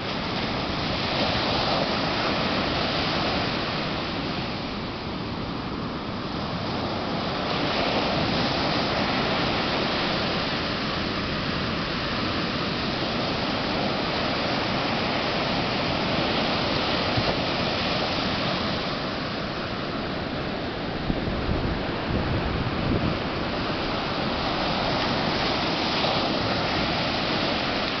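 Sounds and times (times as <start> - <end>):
ocean surf breaking on beach: 0.0 - 28.0.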